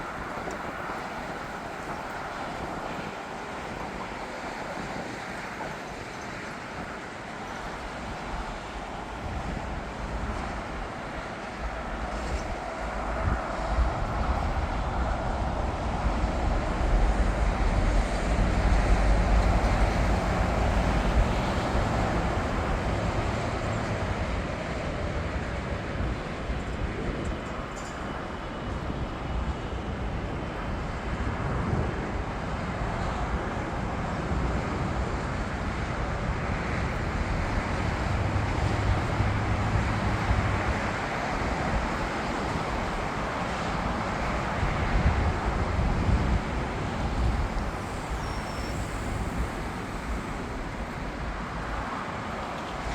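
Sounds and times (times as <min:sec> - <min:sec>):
jet engine rumble and hiss: 0:00.0 - 0:52.9
wind buffeting microphone: 0:00.0 - 0:52.9.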